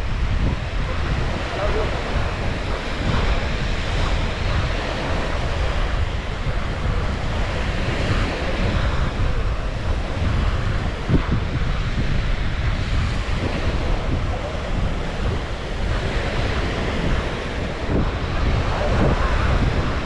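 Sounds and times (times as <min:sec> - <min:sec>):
small waves breaking on beach: 0:00.0 - 0:20.0
wind buffeting microphone: 0:00.0 - 0:20.0.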